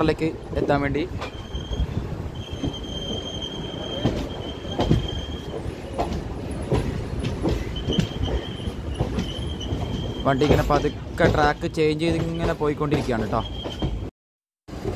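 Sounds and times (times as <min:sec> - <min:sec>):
low train rumble: 0:00.0 - 0:14.1
wheels clacking over rail joints: 0:00.4 - 0:14.1
train wheels squealing: 0:01.2 - 0:06.0, 0:06.7 - 0:14.1.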